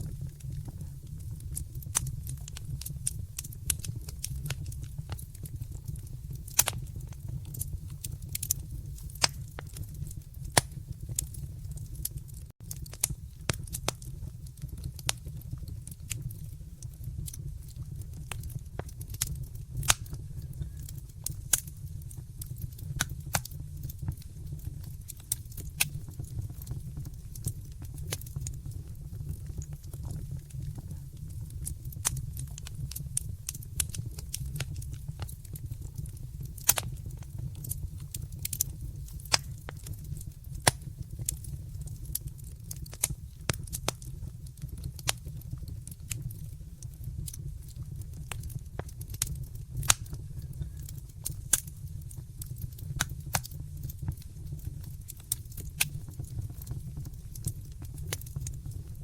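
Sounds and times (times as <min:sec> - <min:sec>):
sharp fire pops: 0:00.0 - 0:47.4, 0:48.0 - 0:58.8
low fire rumble: 0:00.0 - 0:59.0
wood fire crackling: 0:00.0 - 0:59.0.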